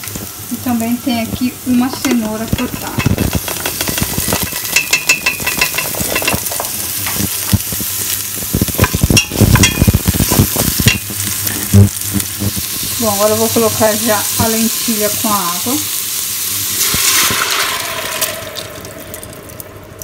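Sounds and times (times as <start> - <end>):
onion sizzling in oil: 0.0 - 20.0.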